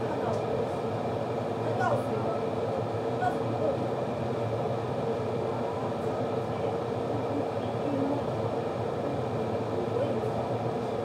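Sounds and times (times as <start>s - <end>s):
kettle heating water: 0.0s - 11.0s.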